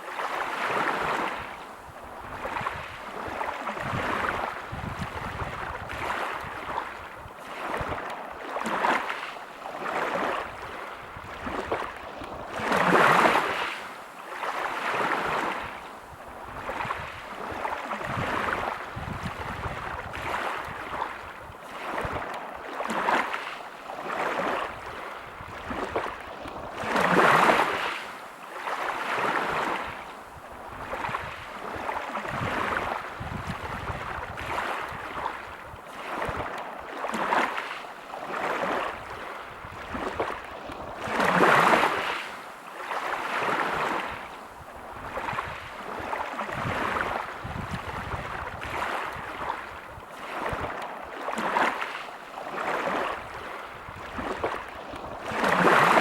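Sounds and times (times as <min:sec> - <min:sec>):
waves on pebble beach: 0:00.0 - 0:56.0.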